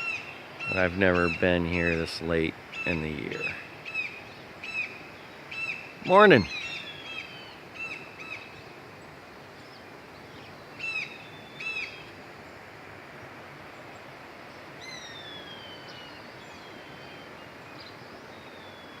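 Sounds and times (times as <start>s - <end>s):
birds chirping: 0.0s - 19.0s
steady background hiss: 0.0s - 19.0s.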